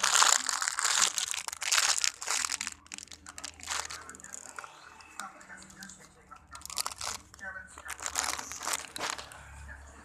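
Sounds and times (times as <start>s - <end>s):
plastic packaging crinkling: 0.0s - 4.8s, 5.6s - 9.4s.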